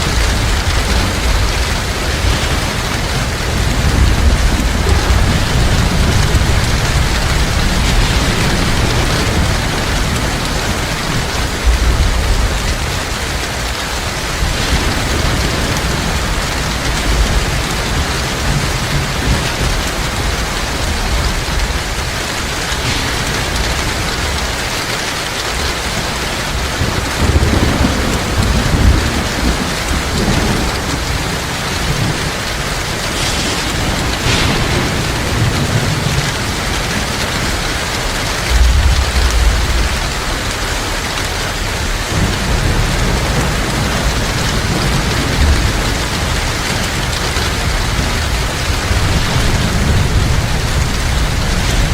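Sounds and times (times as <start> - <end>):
heavy rain falling: 0.0 - 51.9
low thunder rumbles: 0.0 - 51.9.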